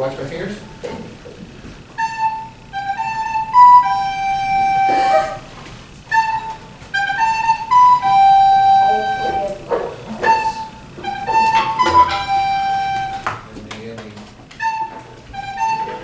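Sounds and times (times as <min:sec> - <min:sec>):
recorder playing a tune: 0:00.0 - 0:13.5, 0:14.4 - 0:16.0.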